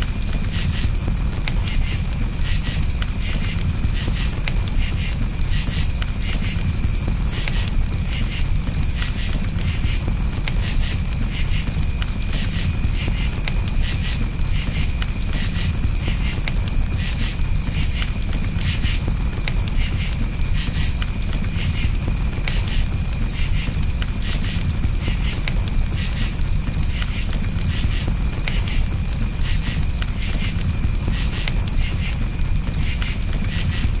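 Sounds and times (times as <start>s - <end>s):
campfire crackling and popping: 0.0s - 34.0s
crickets chirping: 0.0s - 34.0s.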